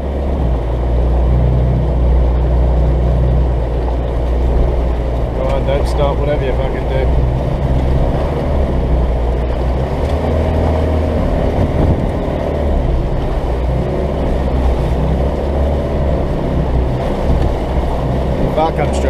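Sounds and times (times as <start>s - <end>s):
diesel engine labouring: 0.0s - 19.0s.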